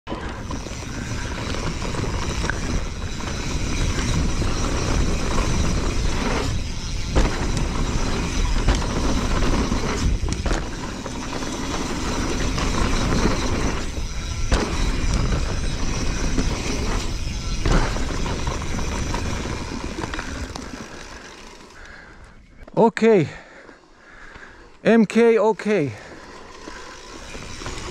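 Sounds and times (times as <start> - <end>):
bike tyres rolling over dirt: 0.1 - 24.8, 25.8 - 27.9.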